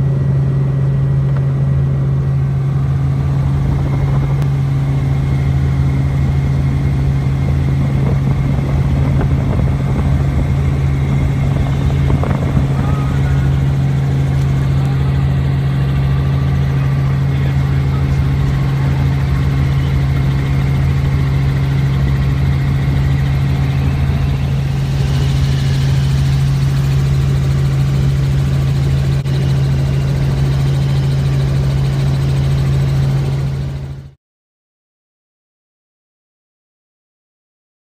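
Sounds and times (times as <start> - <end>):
helicopter engine and rotors droning: 0.0 - 34.2.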